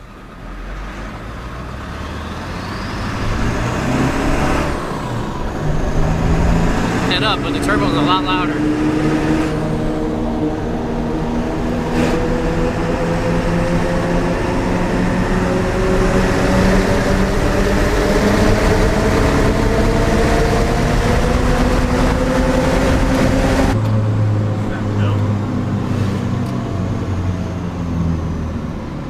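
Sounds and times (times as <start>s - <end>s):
diesel truck engine driving: 0.0s - 29.0s.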